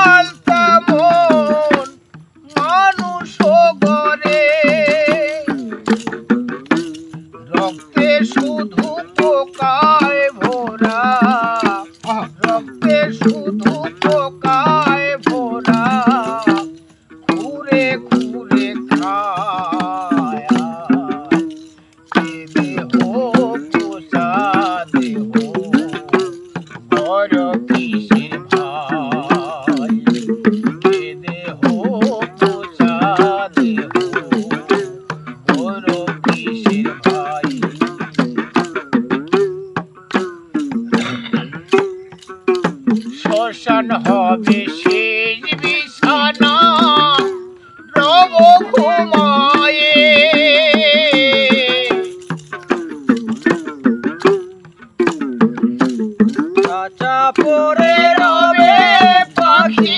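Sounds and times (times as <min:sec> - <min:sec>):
hand drums and wooden clappers: 0:00.0 - 0:59.9
man singing folk song: 0:00.0 - 0:59.9.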